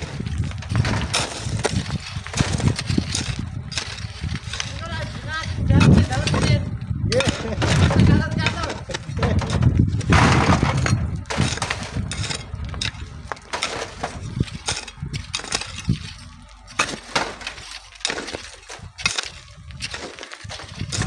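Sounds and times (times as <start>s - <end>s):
stones and gravel clattering: 0.0s - 21.0s.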